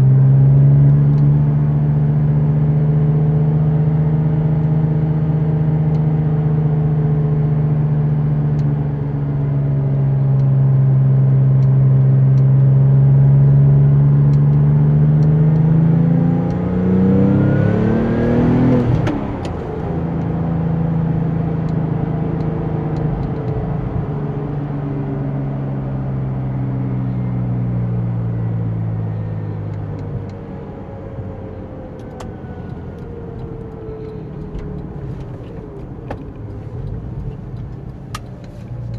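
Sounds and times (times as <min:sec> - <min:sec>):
sports car engine accelerating: 0:00.0 - 0:38.9.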